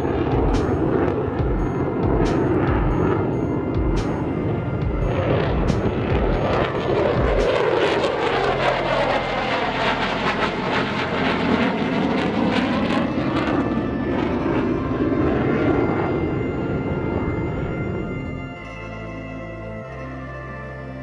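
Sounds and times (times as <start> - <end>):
jet aircraft flying overhead: 0.0 - 21.0.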